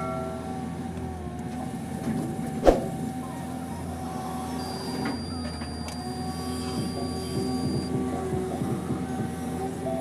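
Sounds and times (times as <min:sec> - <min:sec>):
excavator diesel engine running: 0:00.4 - 0:10.0.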